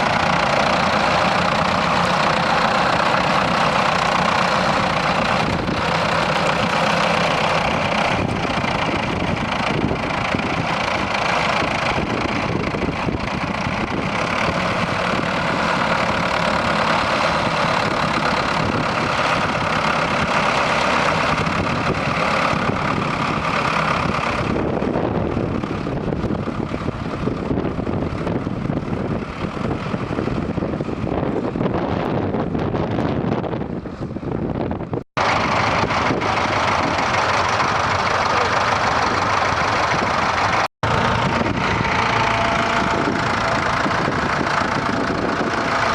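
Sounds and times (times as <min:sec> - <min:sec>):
tractor diesel engines running: 0:00.0 - 0:45.9.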